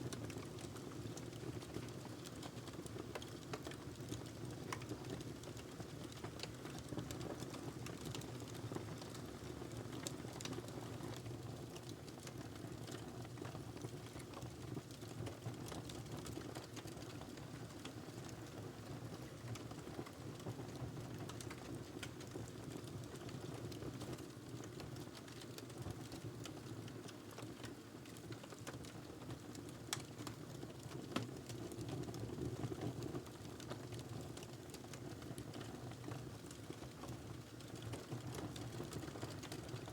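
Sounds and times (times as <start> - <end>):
wood fire crackling: 0.2 - 39.6.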